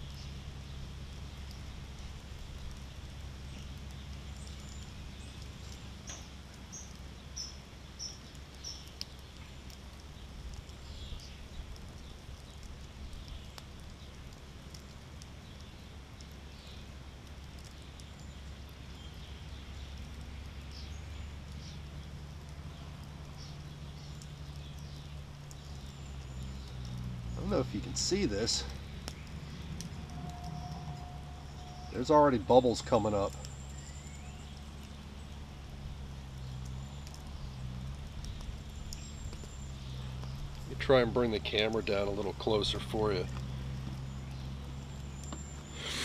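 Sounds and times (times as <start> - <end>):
faint ticks: 0.0 - 40.8, 41.5 - 46.0
steady low rumble: 0.0 - 45.8.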